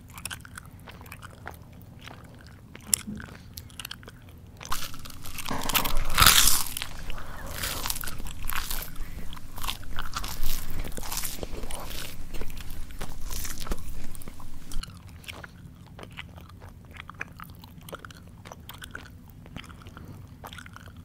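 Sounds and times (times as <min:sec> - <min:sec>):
chewing crunchy food: 0:00.0 - 0:21.0
wet mouth clicks: 0:00.0 - 0:21.0.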